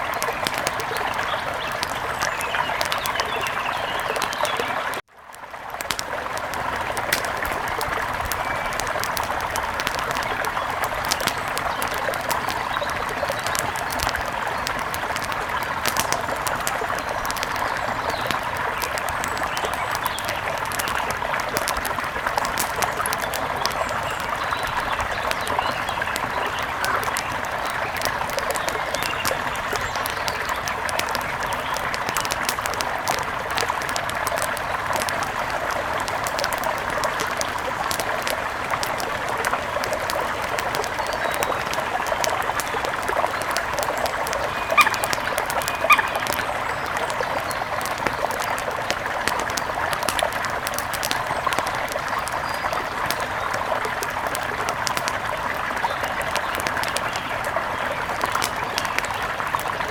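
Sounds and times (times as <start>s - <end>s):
river water flowing: 0.0s - 59.9s
wood fire crackling and popping: 0.0s - 59.9s.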